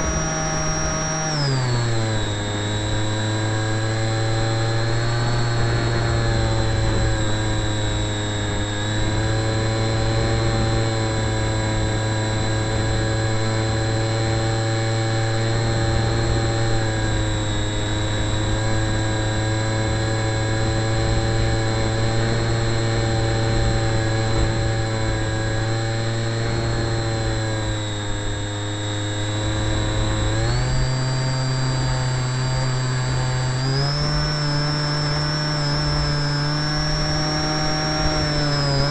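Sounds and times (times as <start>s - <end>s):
model aircraft motor droning: 0.0s - 38.9s.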